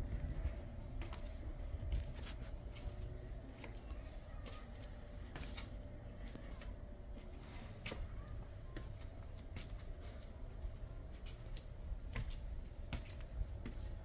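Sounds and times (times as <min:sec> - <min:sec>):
footsteps on cobblestones: 0:00.0 - 0:14.0.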